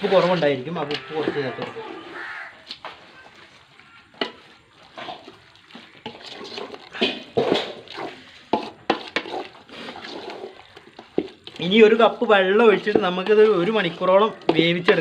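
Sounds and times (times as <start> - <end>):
spoon stirring thick sauce: 0.0 - 15.0.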